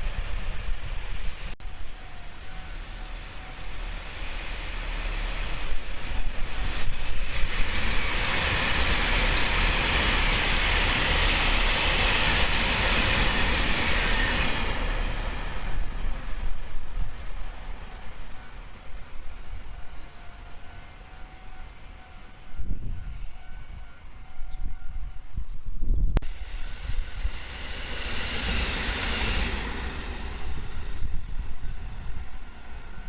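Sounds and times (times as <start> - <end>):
train wheels rushing on rails: 0.0 - 33.0.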